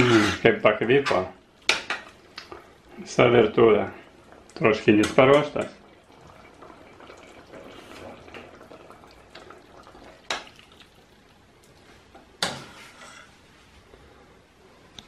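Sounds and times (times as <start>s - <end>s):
stew bubbling in a pot: 0.0s - 13.1s.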